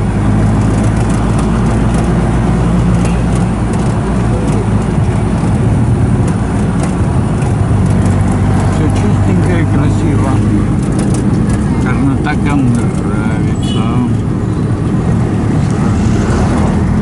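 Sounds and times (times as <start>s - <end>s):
road rumble: 0.0s - 17.0s.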